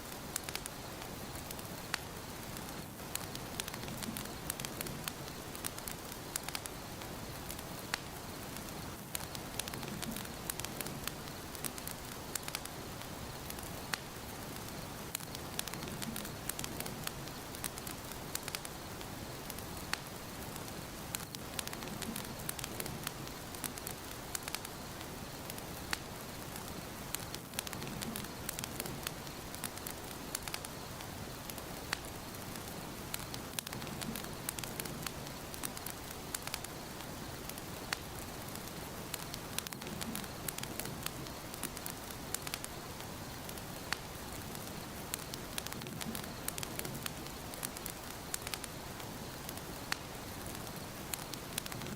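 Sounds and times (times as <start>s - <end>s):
fire crackles and pops: 0.0s - 51.9s
fire hissing: 0.0s - 51.9s.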